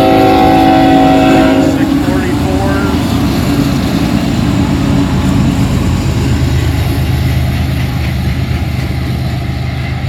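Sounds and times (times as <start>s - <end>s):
diesel locomotive engine drone: 0.0s - 10.0s
rolling train rumble: 0.0s - 10.0s.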